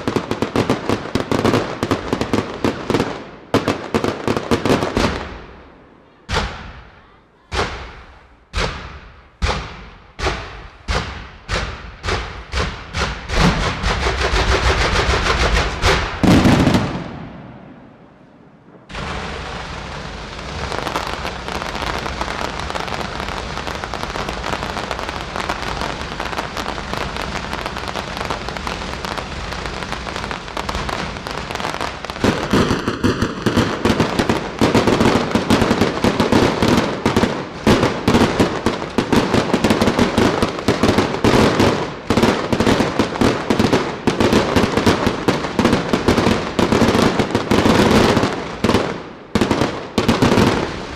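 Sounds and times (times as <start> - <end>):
fireworks blast: 0.0 - 50.9
fireworks crackling and popping: 0.0 - 50.9.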